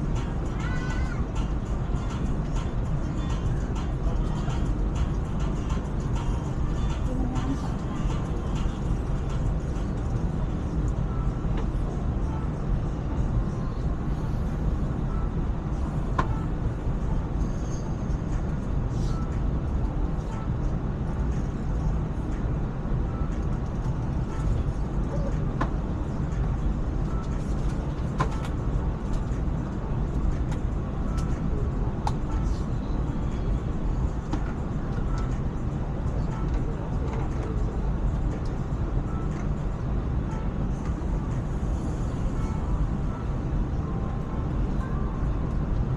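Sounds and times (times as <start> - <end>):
train rumble inside carriage: 0.0 - 45.9.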